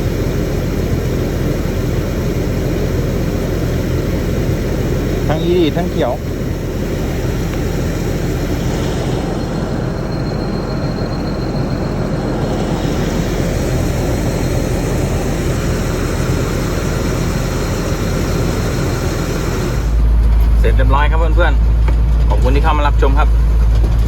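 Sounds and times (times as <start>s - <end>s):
harvester engine running: 0.0s - 24.0s.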